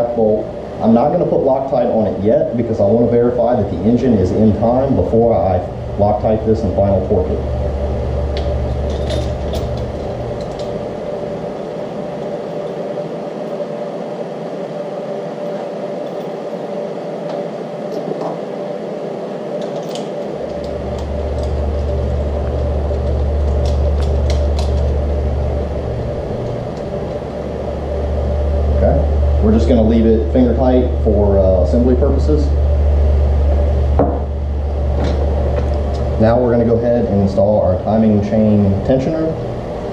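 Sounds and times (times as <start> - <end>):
low machine hum: 0.0 - 39.9.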